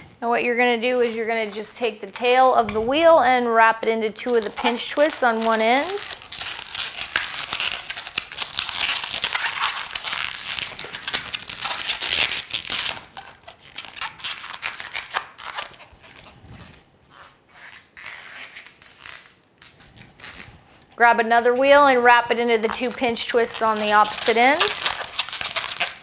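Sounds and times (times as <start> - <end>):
balloons rubbing and twisting: 0.0 - 3.4, 4.2 - 26.0.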